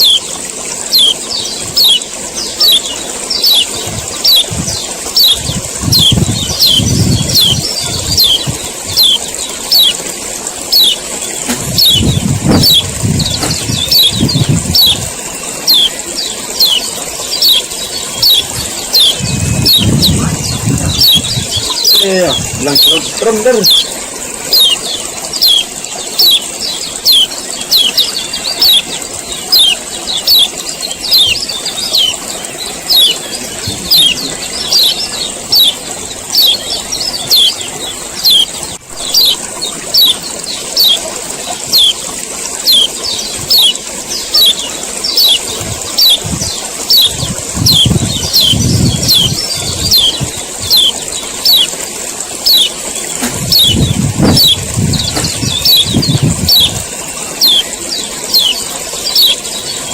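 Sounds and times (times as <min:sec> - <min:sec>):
bird harsh chirping call: 0:00.0 - 0:51.8, 0:52.4 - 0:59.9.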